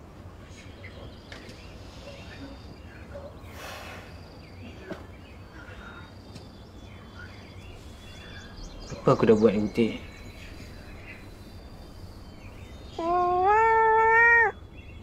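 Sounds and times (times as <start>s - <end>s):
low hum: 0.0s - 15.0s
small birds chirping: 0.0s - 15.0s.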